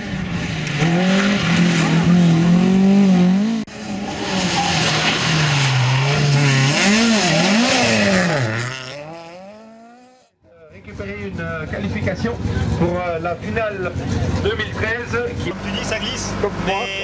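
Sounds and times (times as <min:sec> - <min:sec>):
gravel and tyre noise: 0:00.0 - 0:17.0
rally car engines revving: 0:00.0 - 0:17.0.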